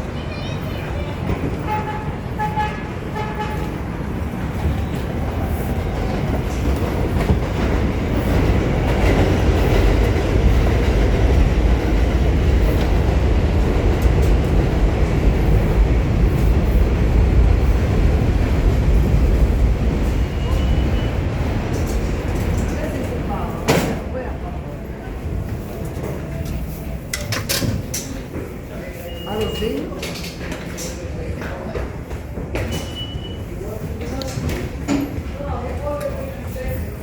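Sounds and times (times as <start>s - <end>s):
subway train rumbling on rails: 0.0s - 37.0s.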